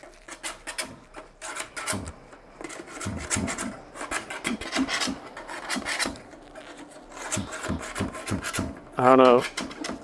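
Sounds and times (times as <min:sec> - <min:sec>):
tool scraping inside muffler: 0:00.0 - 0:10.0.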